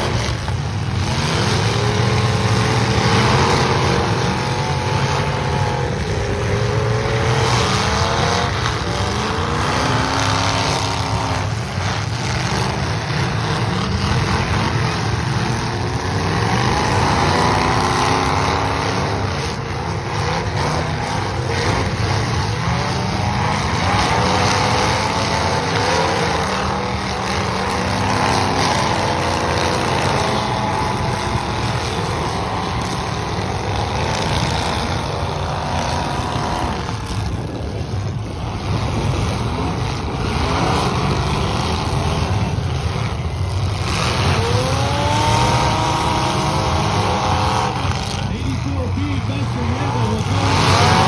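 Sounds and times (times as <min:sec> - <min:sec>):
car engines revving hard: 0:00.0 - 0:51.0.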